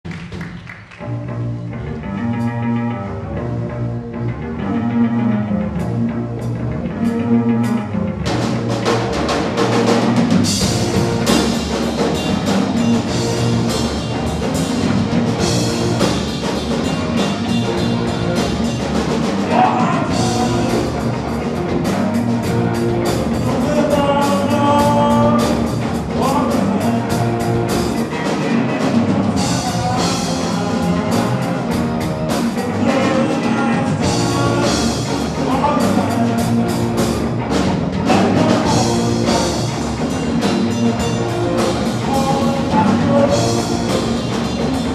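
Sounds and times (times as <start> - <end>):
live rock band playing: 0.1 - 44.9.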